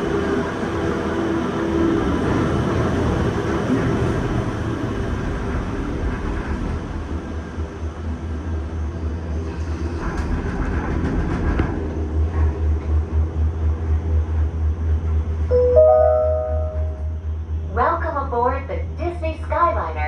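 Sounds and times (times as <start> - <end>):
gondola cabin low rumble: 0.0 - 20.0.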